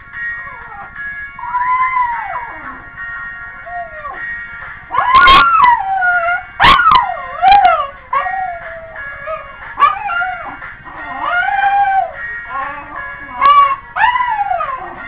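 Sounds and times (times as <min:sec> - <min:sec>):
background music: 0:00.0 - 0:15.0
dog howling: 0:00.4 - 0:02.9, 0:03.6 - 0:04.3, 0:04.9 - 0:15.0.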